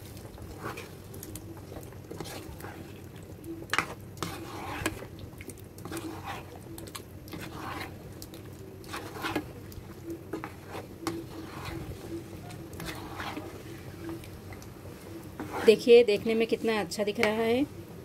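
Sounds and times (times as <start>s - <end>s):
spatula stirring thick gravy: 0.0s - 17.4s.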